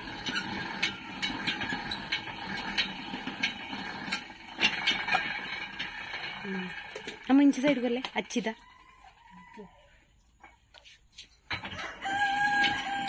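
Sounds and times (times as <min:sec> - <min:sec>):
hand-cranked roller rumbling: 0:00.0 - 0:09.8, 0:11.4 - 0:13.0.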